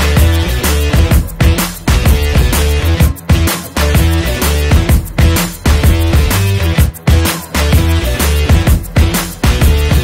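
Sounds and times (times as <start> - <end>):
upbeat music with drum beat: 0.0 - 10.0.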